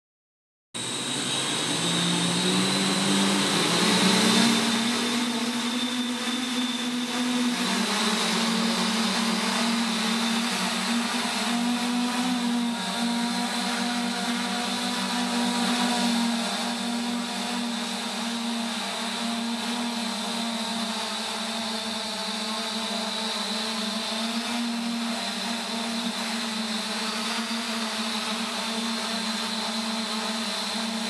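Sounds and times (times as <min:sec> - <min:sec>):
drone motors humming and whining: 0:00.8 - 0:31.0
hissing rotor wash: 0:00.8 - 0:31.0.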